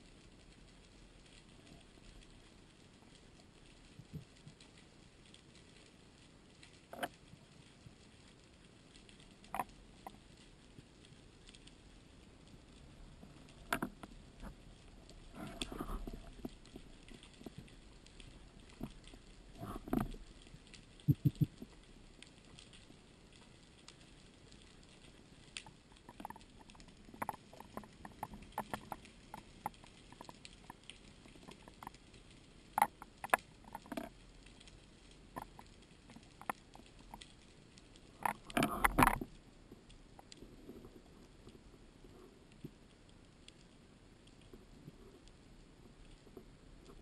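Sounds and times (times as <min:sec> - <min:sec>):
underwater clicks and crackles: 0:00.0 - 0:47.0.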